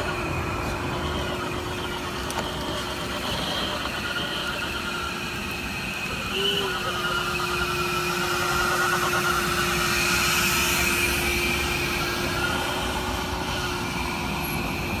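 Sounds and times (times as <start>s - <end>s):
vacuum machine humming: 0.0s - 14.8s.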